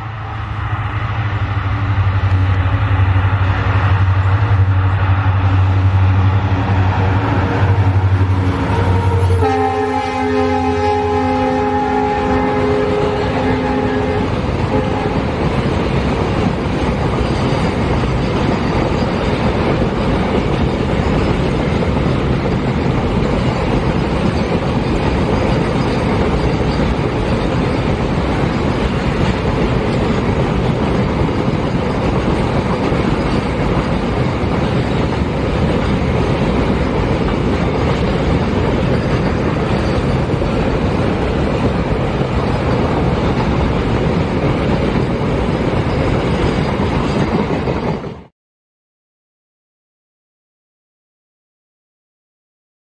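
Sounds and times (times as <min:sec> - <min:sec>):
train wheels rumbling on rails: 0:00.0 - 0:48.3.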